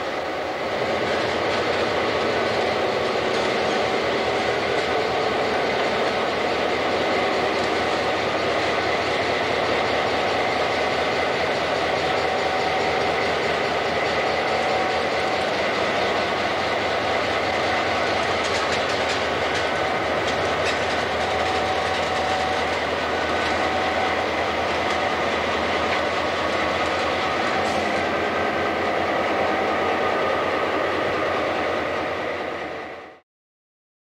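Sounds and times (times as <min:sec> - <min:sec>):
diesel locomotive idling: 0:00.0 - 0:33.2
high whine: 0:00.0 - 0:33.2.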